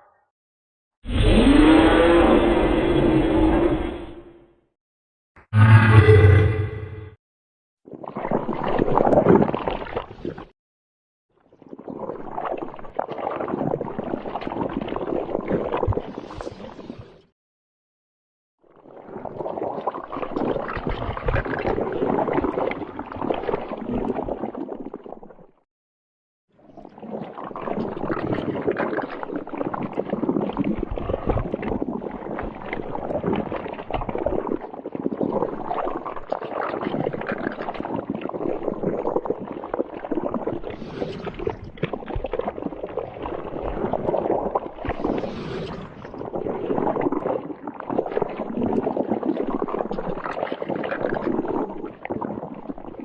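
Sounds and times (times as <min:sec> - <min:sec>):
wet gurgling and bubbling: 0:01.0 - 0:04.4, 0:07.9 - 0:10.6, 0:11.4 - 0:17.3, 0:18.6 - 0:25.6, 0:26.6 - 0:53.0.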